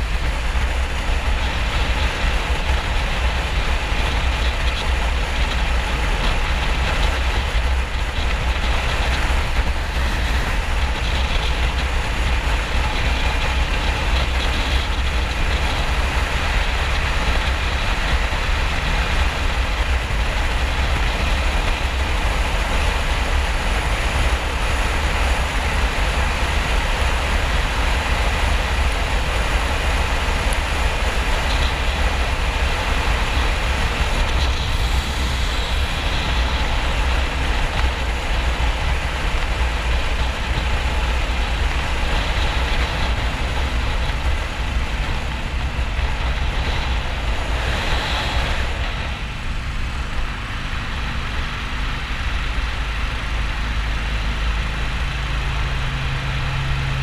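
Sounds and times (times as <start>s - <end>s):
motorcycle engine drone: 0.0s - 57.0s
wind noise rushing: 0.0s - 57.0s.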